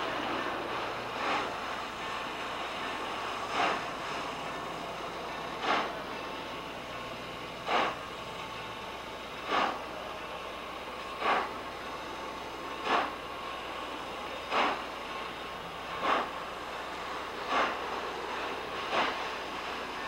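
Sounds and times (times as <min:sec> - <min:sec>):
steady steam hiss: 0:00.0 - 0:20.0
steam locomotive chuffing: 0:00.0 - 0:20.0.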